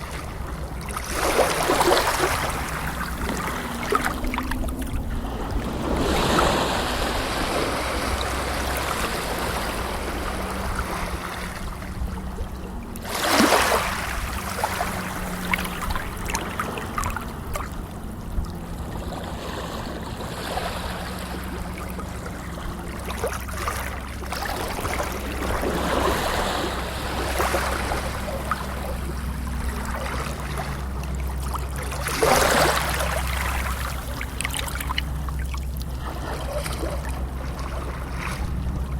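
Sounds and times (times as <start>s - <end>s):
low rumble: 0.0s - 38.9s
water washing and splashing: 0.0s - 38.9s.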